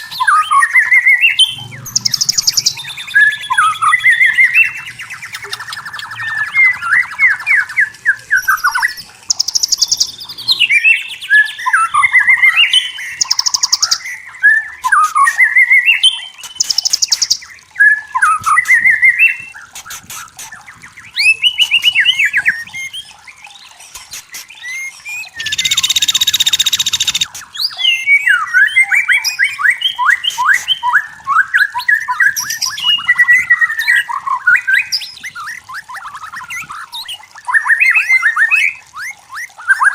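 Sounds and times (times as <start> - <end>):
bird singing whistled phrases: 0.0 - 19.6, 24.4 - 39.9.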